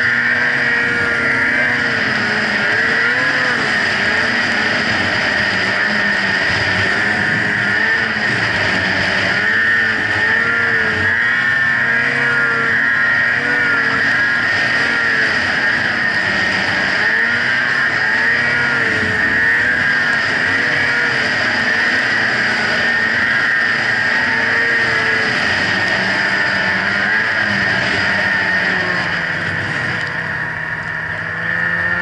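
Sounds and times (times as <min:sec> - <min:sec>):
snowmobile engine under load: 0:00.0 - 0:32.0
steady rushing noise: 0:00.0 - 0:32.0.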